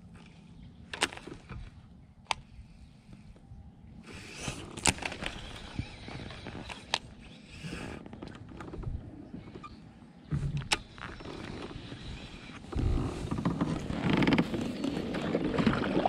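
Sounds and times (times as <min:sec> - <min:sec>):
reel whirring and rustling: 0:02.4 - 0:16.0.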